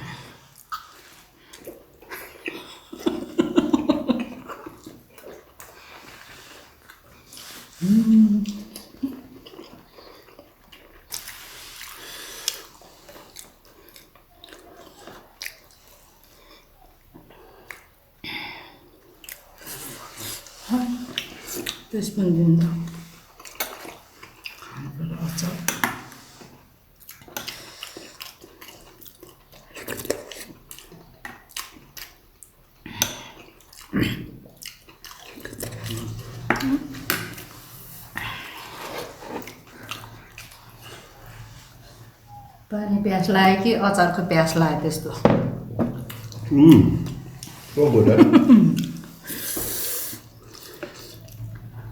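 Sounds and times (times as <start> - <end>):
people chewing and smacking: 0.0 - 21.9, 22.6 - 42.7, 45.8 - 51.9.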